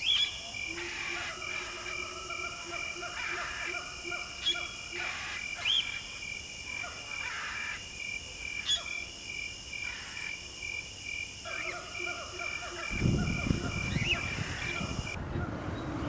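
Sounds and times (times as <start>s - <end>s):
crickets chirping: 0.0s - 15.2s
insect high buzz: 0.0s - 15.2s.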